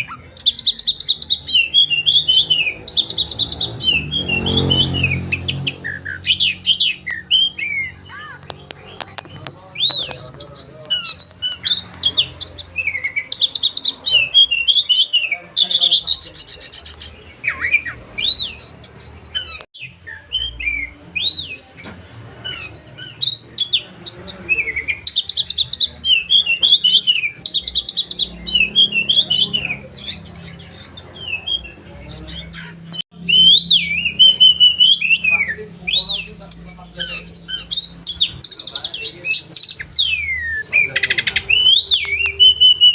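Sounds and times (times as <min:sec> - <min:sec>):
magpie-robin singing: 0:00.0 - 0:42.9.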